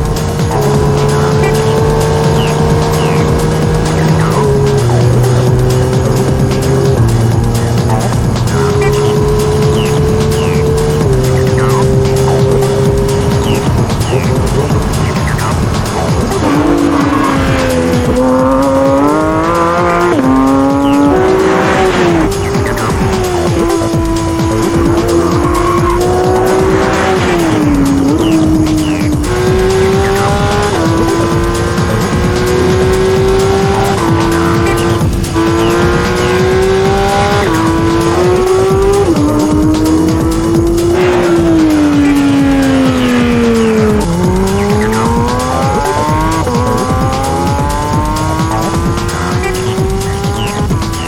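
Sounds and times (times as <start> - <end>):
sports car engine revving through upshifts: 0.0 - 51.0.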